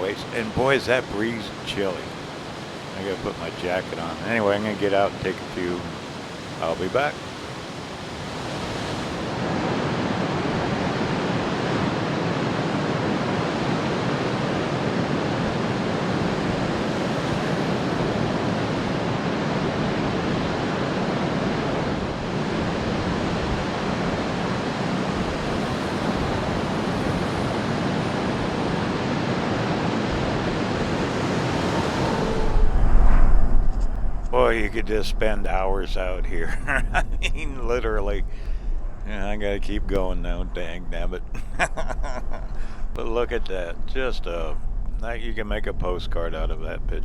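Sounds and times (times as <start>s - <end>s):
breeze blowing across microphone: 0.0s - 47.0s
ocean surf washing in: 0.0s - 47.0s.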